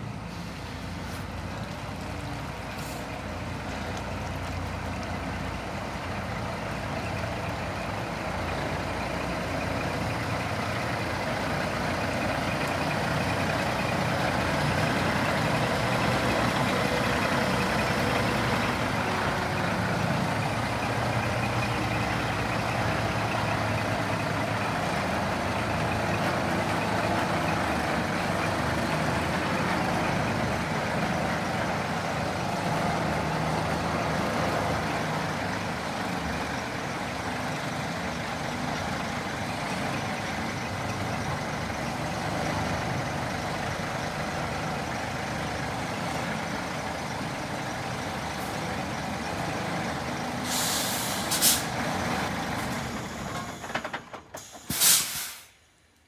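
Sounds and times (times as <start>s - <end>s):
diesel truck engine running: 0.0s - 55.4s.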